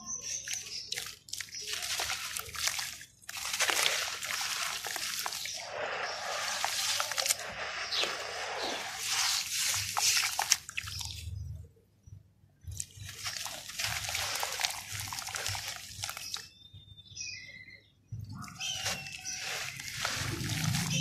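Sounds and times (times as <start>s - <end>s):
dirt crumbling into water: 0.2s - 11.5s, 12.6s - 16.5s, 18.4s - 21.0s
hands sloshing muddy water: 0.2s - 11.5s, 12.7s - 16.5s, 18.4s - 21.0s.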